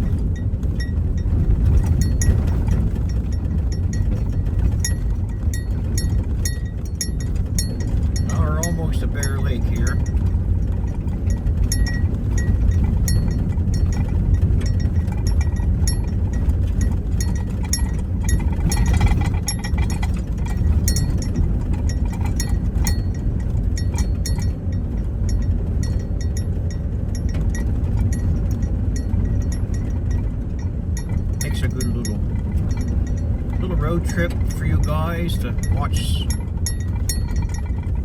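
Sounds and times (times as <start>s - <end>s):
small clicks and rattles: 0.0s - 33.7s, 36.3s - 38.0s
vehicle road rumble: 0.0s - 38.0s.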